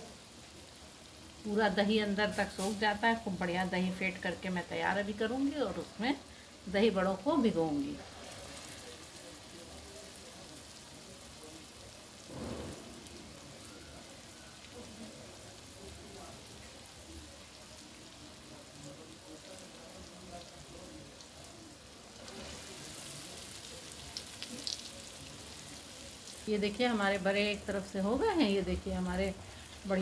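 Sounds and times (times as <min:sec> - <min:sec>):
food deep-frying in hot oil: 0:00.0 - 0:30.0.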